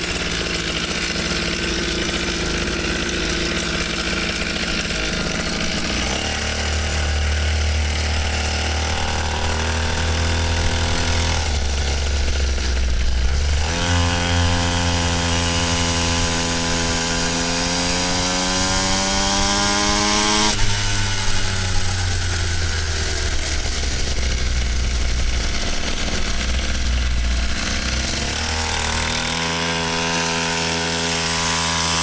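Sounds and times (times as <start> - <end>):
two-stroke engine buzzing: 0.0 - 32.0.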